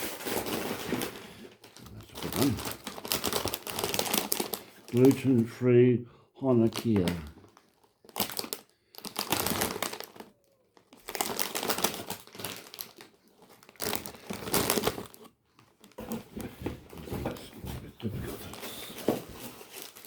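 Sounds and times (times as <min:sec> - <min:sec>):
plastic wrappers crinkling: 0:00.0 - 0:05.6, 0:06.4 - 0:20.0.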